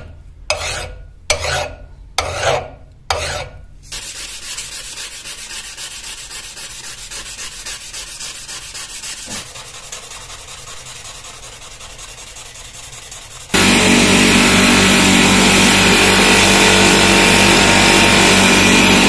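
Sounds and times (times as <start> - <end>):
sanding back and forth: 0.5 - 19.0.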